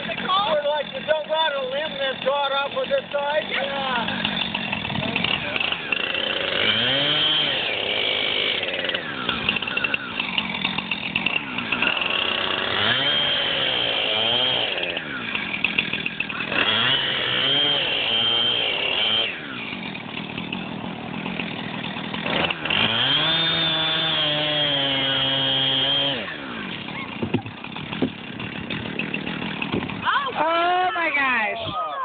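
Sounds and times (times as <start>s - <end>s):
chainsaw cutting ice: 0.0s - 31.6s.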